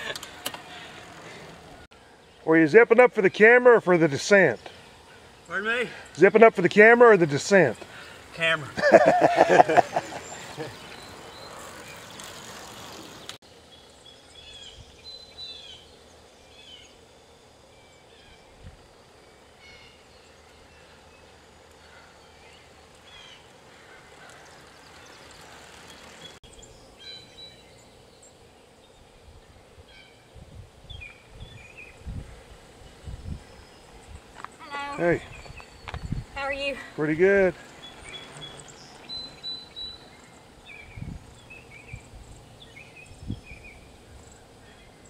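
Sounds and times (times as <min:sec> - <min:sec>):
small birds chirping: 0:03.4 - 0:45.0.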